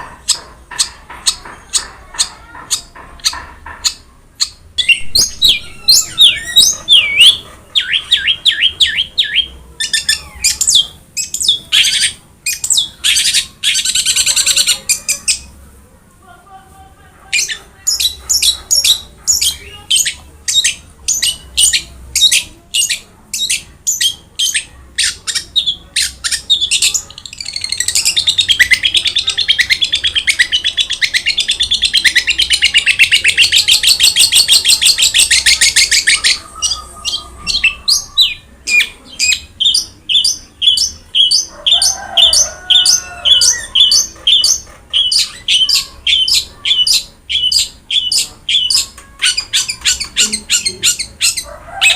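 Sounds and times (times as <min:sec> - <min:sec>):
shrike singing: 0:04.8 - 0:15.5, 0:17.3 - 0:51.9.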